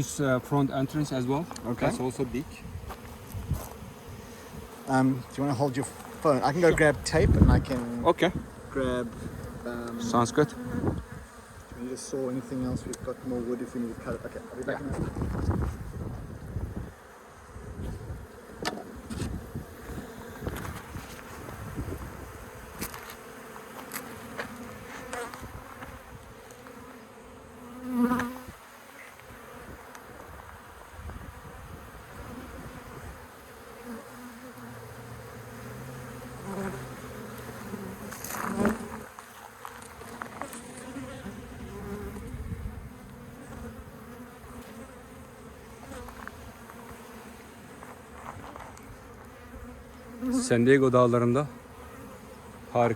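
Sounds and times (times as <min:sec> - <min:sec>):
bee flying close by: 0:00.0 - 0:52.9
honeybees buzzing: 0:00.0 - 0:52.9.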